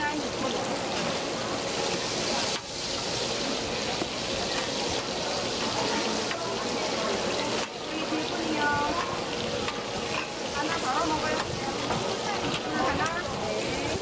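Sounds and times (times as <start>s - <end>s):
pancakes sizzling in oil: 0.0s - 14.0s.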